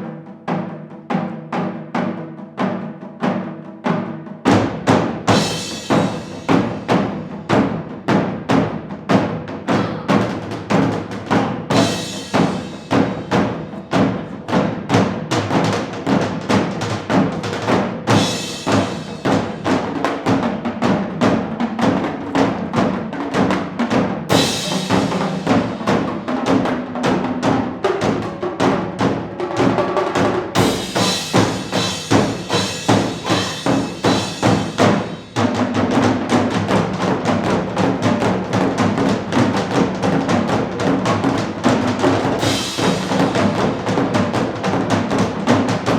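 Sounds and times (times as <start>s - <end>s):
percussion ensemble drumming: 0.0s - 45.9s.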